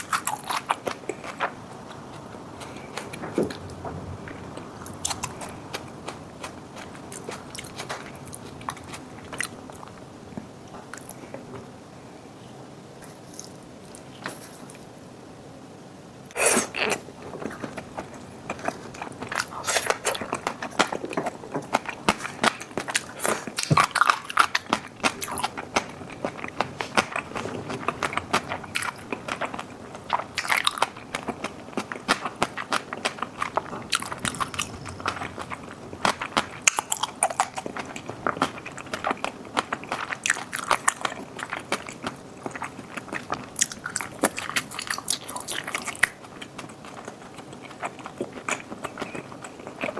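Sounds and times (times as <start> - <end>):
person chewing crunchy food: 0.0 - 11.3, 16.3 - 49.9.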